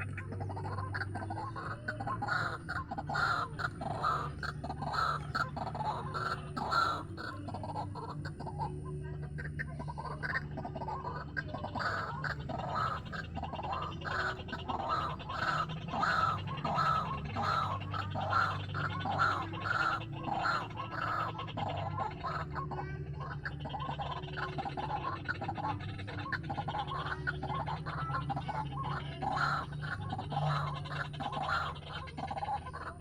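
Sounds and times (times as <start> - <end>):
steady low hum: 0.0 - 33.0
waterhen croaking calls: 0.0 - 33.0.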